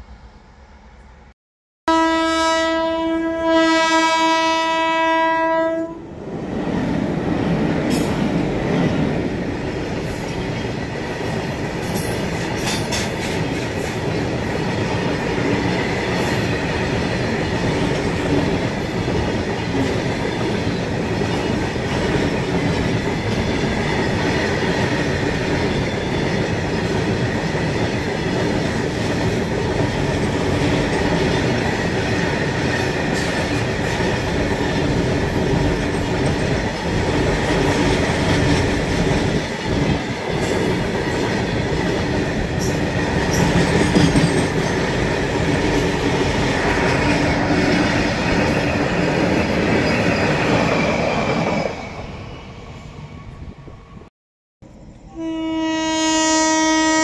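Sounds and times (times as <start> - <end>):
train wheels rumbling on rails: 6.2 - 53.6.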